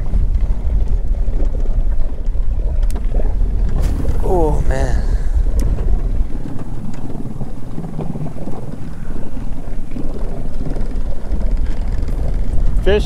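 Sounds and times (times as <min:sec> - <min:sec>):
water washing along boat: 0:00.0 - 0:13.0
wind buffeting microphone: 0:00.0 - 0:13.0.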